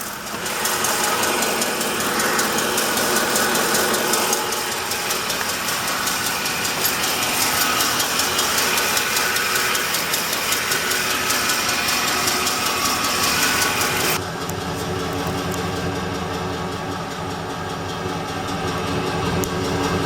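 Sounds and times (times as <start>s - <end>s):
engine idling with rapid ticking: 0.0s - 20.0s
low engine running sound: 0.0s - 20.0s.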